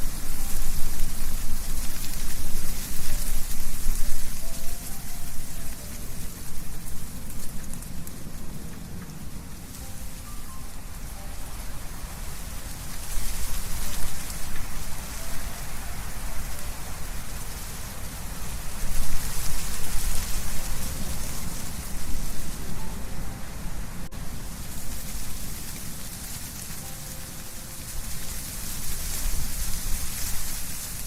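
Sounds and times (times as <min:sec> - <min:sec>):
wind rustling leaves: 0:00.0 - 0:31.0.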